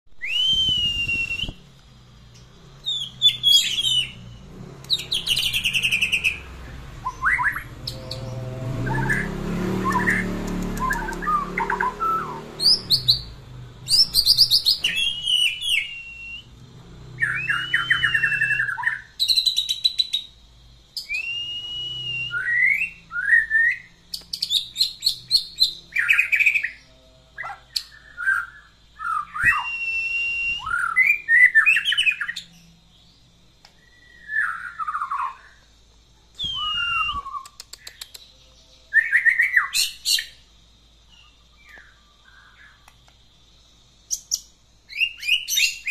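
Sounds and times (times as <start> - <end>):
bird singing whistles and trills: 0.1 - 35.7, 36.3 - 40.5, 41.1 - 43.0, 44.1 - 45.9.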